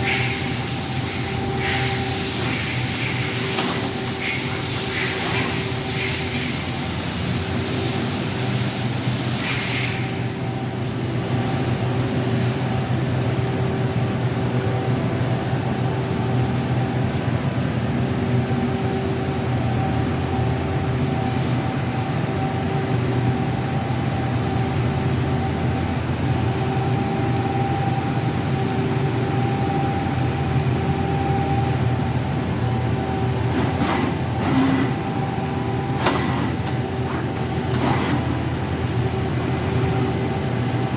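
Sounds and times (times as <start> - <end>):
machine drone with hum tones: 0.0 - 40.9.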